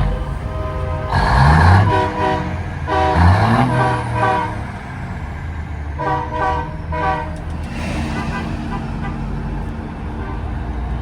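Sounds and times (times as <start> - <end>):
diesel engine revving: 0.0 - 11.0
truck air horns honking: 0.0 - 11.0.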